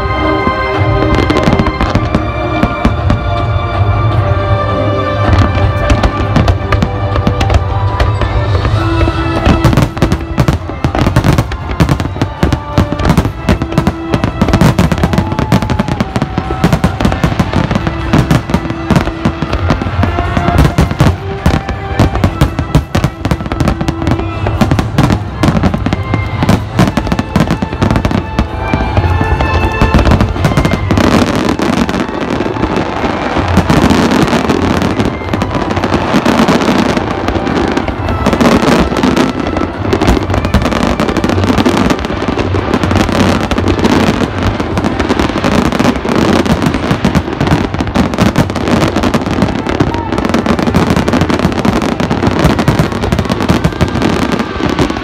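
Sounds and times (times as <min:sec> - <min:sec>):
fireworks bursting: 0:00.0 - 0:04.3, 0:05.0 - 0:55.0
music playing: 0:00.0 - 0:55.0.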